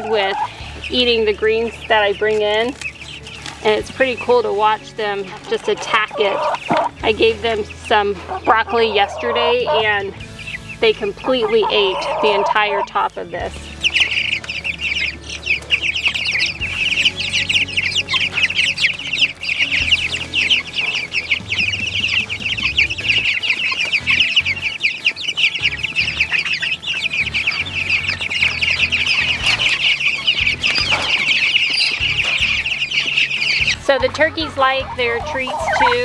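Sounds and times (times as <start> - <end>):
chicks peeping: 0.0 - 36.0.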